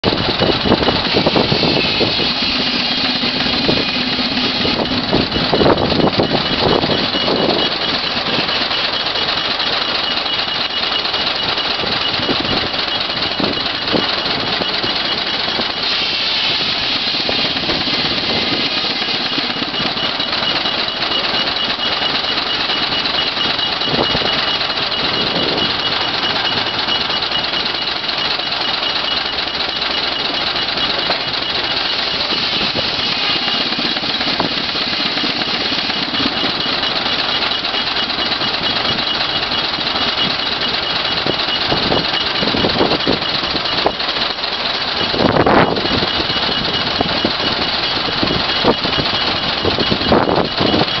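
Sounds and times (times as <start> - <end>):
steady high-pitched tone: 0.0 - 51.0
steam traction engine running: 0.0 - 51.0.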